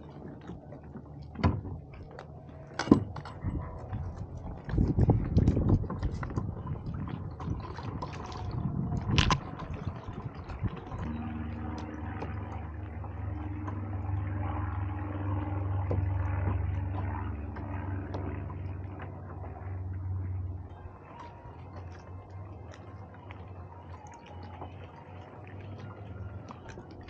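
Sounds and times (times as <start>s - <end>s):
wind on microphone: 0.0s - 22.5s
steady low hum: 0.0s - 27.0s
water splashing around kayak: 0.0s - 27.0s.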